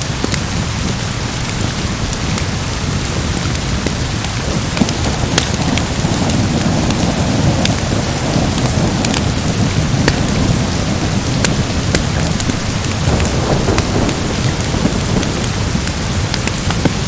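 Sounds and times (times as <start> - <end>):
heavy rain: 0.0 - 17.0
wood fire crackling: 0.0 - 17.0
low rumble of thunder: 1.6 - 17.0.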